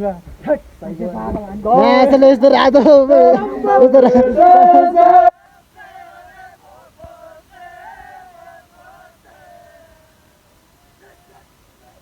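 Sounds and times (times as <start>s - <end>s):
loud voice close by: 0.8s - 12.0s
faint singing voices: 1.0s - 12.0s.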